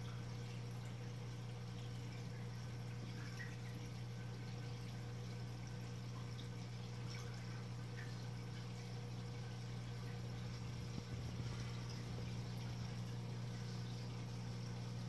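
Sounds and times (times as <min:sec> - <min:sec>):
filter motor hum: 0:00.0 - 0:15.0.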